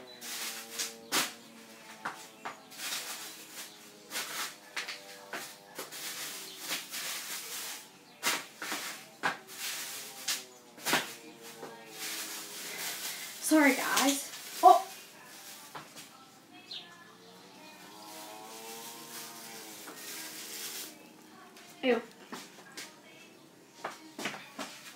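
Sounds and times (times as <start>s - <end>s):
faint music: 0.0s - 24.9s.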